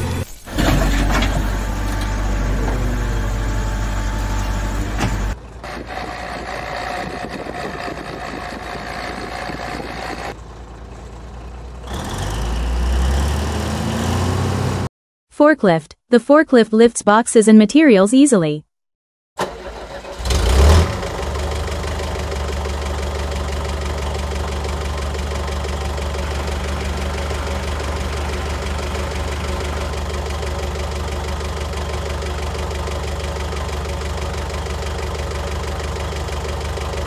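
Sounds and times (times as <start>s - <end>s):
forklift engine starting and idling: 0.0s - 14.9s, 19.4s - 37.0s.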